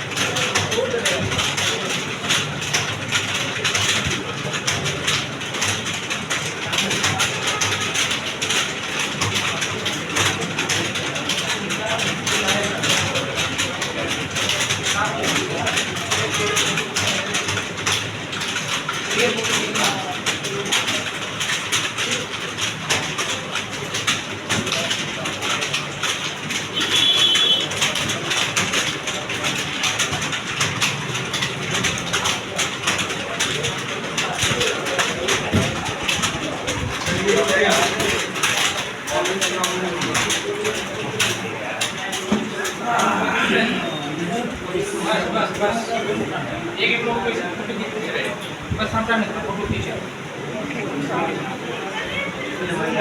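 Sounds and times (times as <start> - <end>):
keyboards typing clatter: 0.0 - 53.0.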